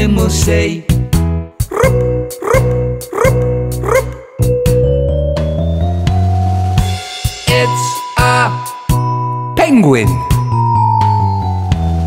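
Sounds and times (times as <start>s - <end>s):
instrumental children's music: 0.0s - 12.0s.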